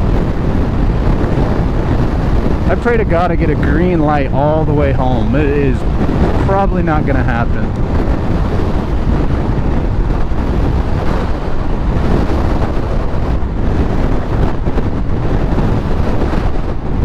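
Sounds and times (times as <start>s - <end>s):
wind buffeting a microphone: 0.0s - 17.0s.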